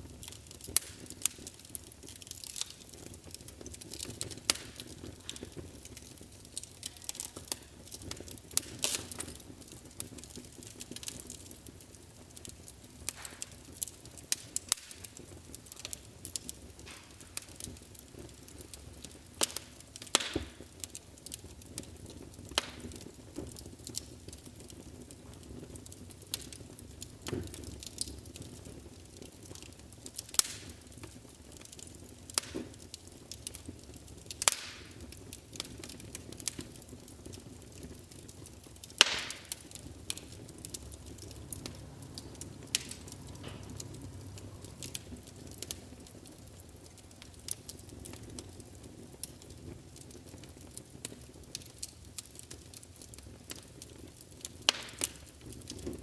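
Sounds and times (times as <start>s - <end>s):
fire crackles and pops: 0.0s - 56.0s
fire flames rushing: 0.0s - 56.0s.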